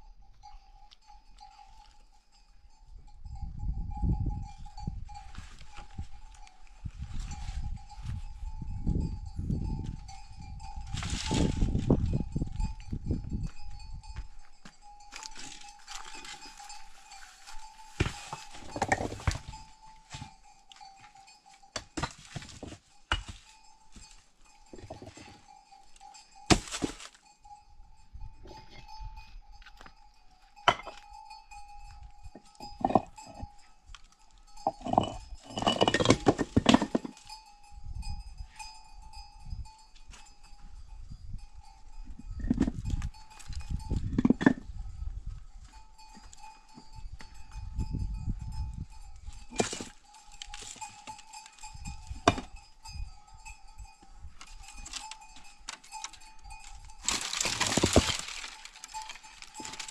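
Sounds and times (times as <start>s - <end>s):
clinks and knocks: 3.2s - 27.3s, 28.2s - 44.8s, 45.7s - 59.9s.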